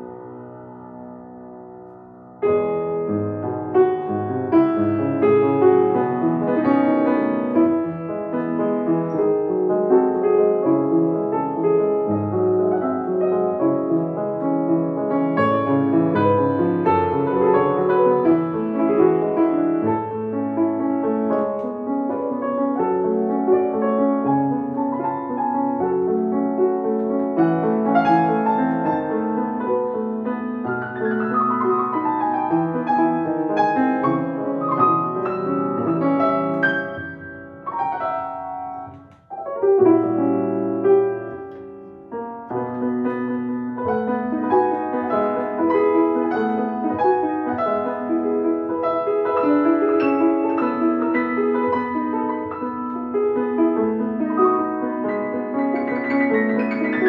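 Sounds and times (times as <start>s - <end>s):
solo classical grand piano: 0.0s - 57.0s.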